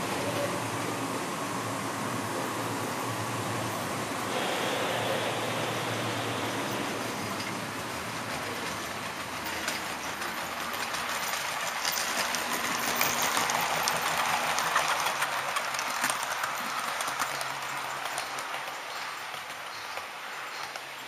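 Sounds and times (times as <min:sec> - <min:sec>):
model train wheels on rails: 0:00.0 - 0:21.0.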